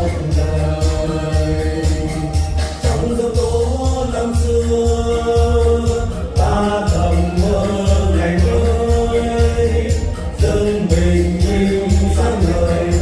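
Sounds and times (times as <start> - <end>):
backing track with bass beat: 0.0 - 13.0
vocal ensemble singing: 0.0 - 13.0.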